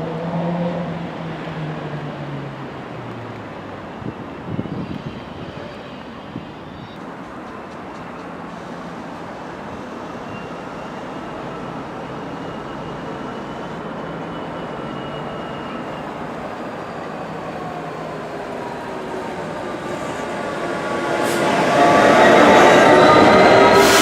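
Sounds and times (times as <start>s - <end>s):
train rumbling: 0.2s - 24.0s.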